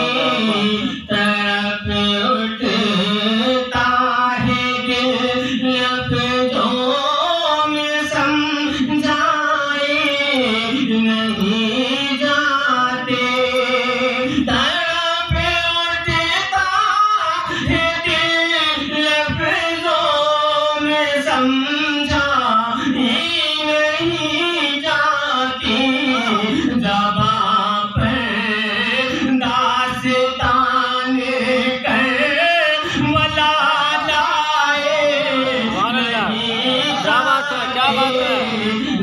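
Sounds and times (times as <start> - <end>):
man singing into a microphone: 0.0 - 39.0.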